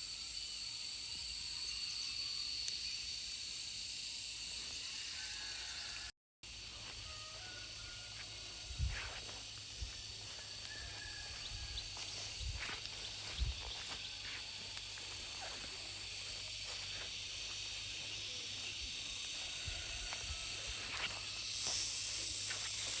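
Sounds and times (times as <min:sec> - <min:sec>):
high hiss of rural ambience: 0:00.0 - 0:23.0.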